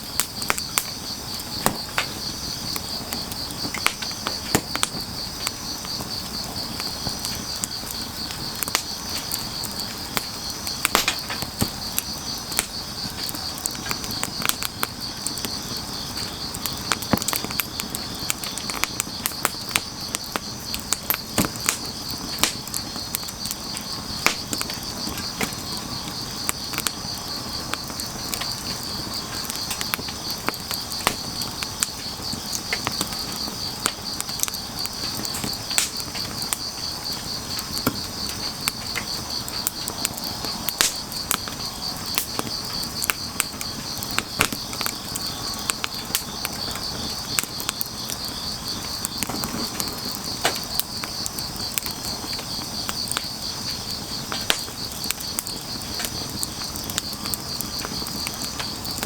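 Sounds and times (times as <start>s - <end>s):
crickets trilling: 0.0s - 59.0s
firewood crackling and popping: 0.0s - 59.0s.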